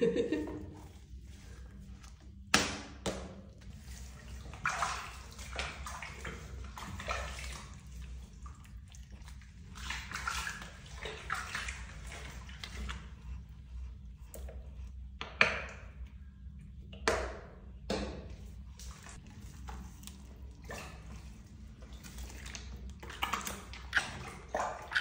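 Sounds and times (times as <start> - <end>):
water sloshing in a plastic tub: 0.0 - 25.0.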